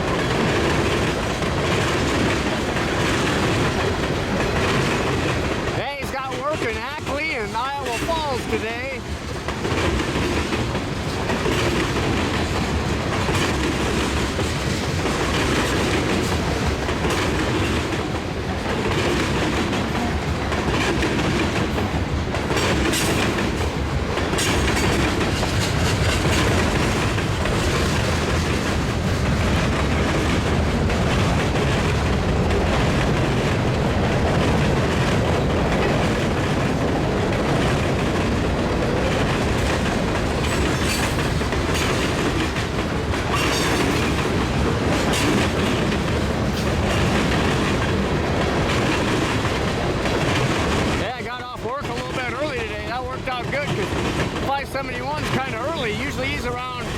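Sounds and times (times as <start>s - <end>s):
sharp rail clacks: 0.0s - 56.9s
train wheels clickety-clack: 0.0s - 56.9s.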